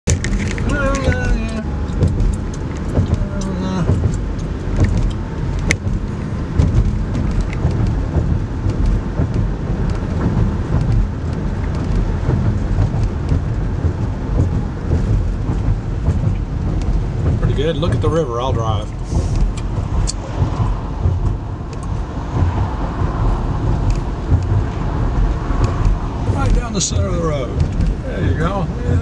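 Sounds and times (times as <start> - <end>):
small knocks and rattles: 0.1 - 29.0
tyres rumbling on concrete: 0.1 - 29.0.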